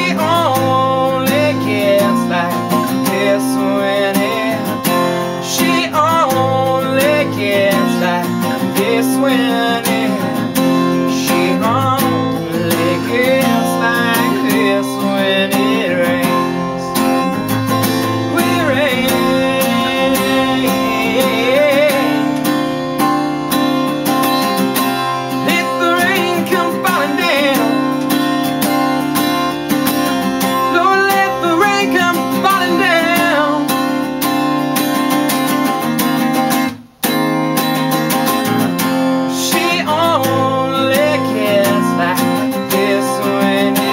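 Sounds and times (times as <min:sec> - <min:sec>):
man singing: 0:00.0 - 0:23.1, 0:25.3 - 0:29.0, 0:30.0 - 0:34.1, 0:39.2 - 0:43.9
acoustic guitar: 0:00.0 - 0:43.9.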